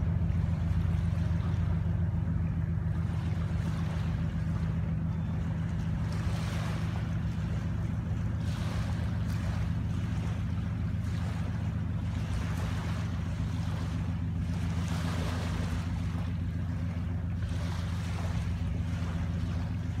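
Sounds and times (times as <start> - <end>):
ship engines droning: 0.0 - 20.0
small waves washing on shore: 0.0 - 20.0.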